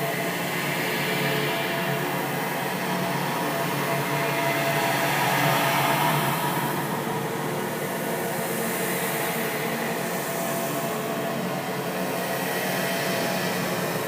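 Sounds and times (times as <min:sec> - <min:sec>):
dark ambient drone: 0:00.0 - 0:14.0.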